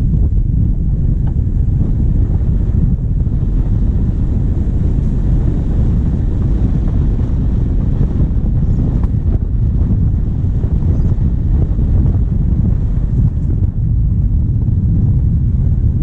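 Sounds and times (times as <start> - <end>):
diesel engine running: 0.0 - 16.0
wind buffeting microphone: 0.0 - 16.0.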